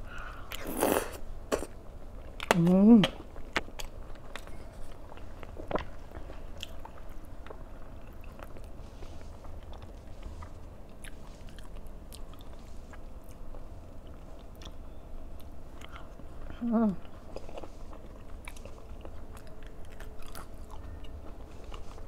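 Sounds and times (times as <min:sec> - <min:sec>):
low steady hum: 0:00.0 - 0:22.0
person chewing: 0:00.2 - 0:22.0.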